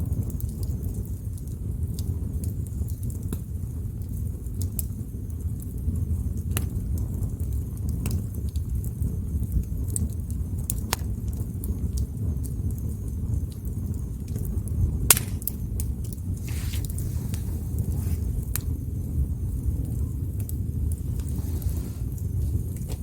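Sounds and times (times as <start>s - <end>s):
low rush of flames: 0.0s - 23.0s
wood fire crackling and popping: 0.0s - 23.0s.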